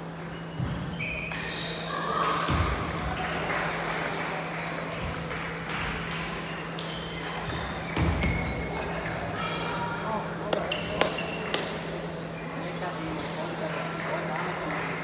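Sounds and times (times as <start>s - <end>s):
low hum in a hall: 0.0s - 15.0s.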